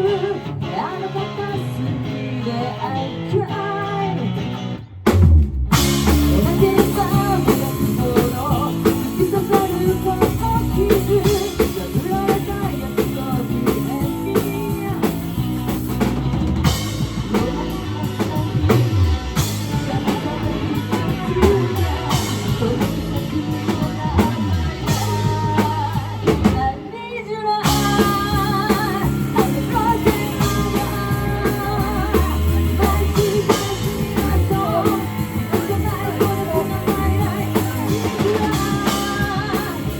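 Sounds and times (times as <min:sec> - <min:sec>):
person singing: 0:00.0 - 0:04.6, 0:06.0 - 0:39.9
guitar: 0:00.0 - 0:39.9
drum kit: 0:03.8 - 0:39.9.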